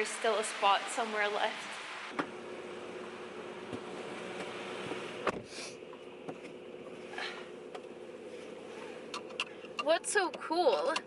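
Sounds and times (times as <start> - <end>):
vehicle hum: 0.0 - 11.0.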